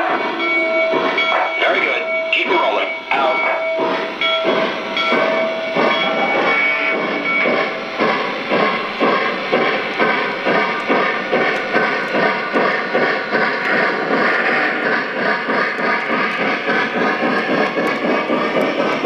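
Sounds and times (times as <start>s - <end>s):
model train steam chuffs: 0.0s - 19.0s.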